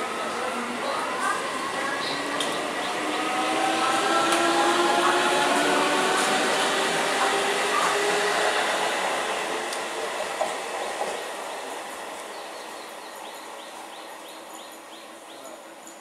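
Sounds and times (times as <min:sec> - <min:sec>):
train running past: 0:00.0 - 0:16.0.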